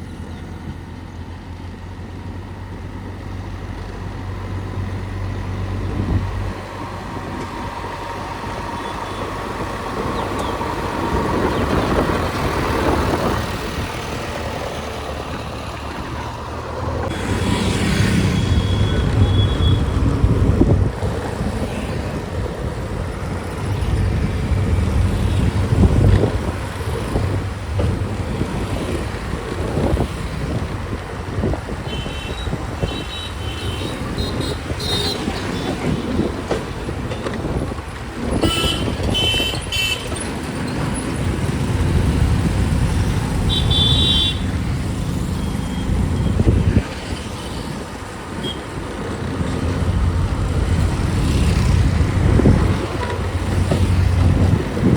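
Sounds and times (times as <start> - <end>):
diesel machinery engine rumbling: 0.0 - 54.9.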